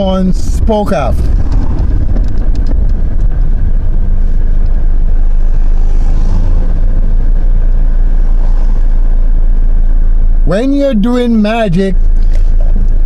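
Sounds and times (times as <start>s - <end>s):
loud low rumbling: 0.0s - 13.0s.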